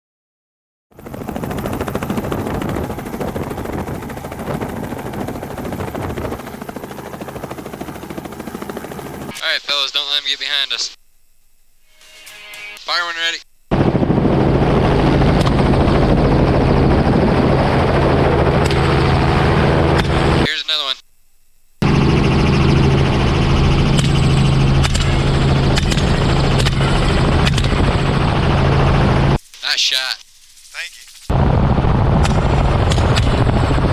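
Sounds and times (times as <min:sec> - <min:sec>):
helicopter rotor chop: 0:00.9 - 0:09.4, 0:13.7 - 0:20.5, 0:21.8 - 0:33.9.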